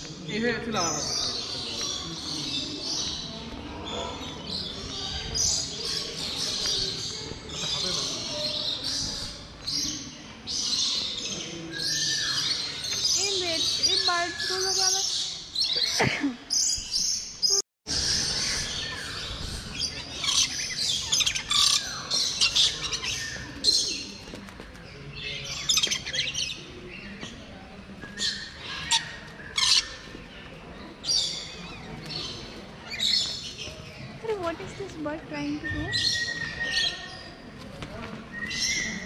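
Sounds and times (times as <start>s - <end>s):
birds chirping and squawking: 0.2s - 37.6s, 38.3s - 39.0s.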